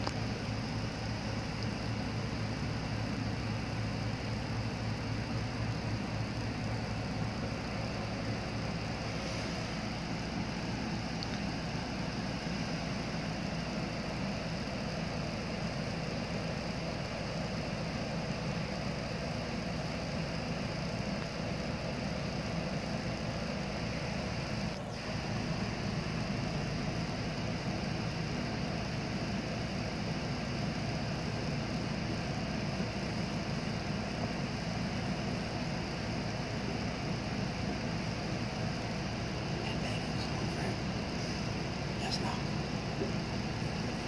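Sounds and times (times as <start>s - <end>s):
background hum and hiss: 0.0s - 44.0s.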